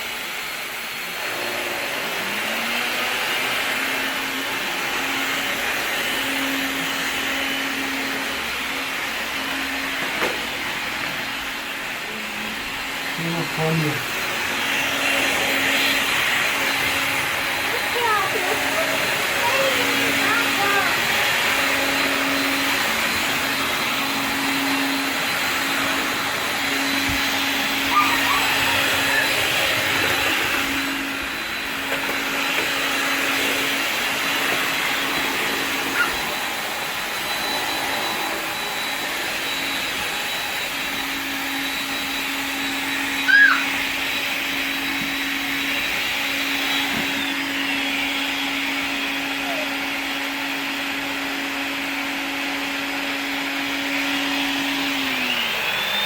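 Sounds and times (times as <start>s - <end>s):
vacuum cleaners humming: 0.0s - 56.0s.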